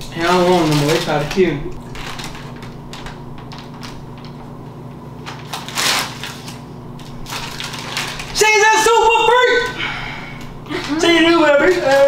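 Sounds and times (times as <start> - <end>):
plastic packaging crinkling: 0.0 - 4.6, 5.2 - 9.8, 10.4 - 12.0.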